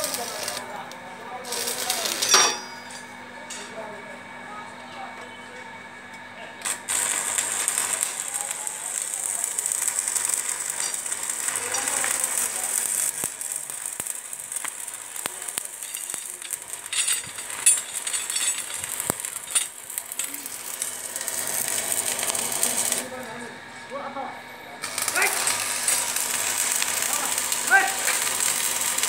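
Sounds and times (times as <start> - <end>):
arc welding noise: 0.0 - 29.0.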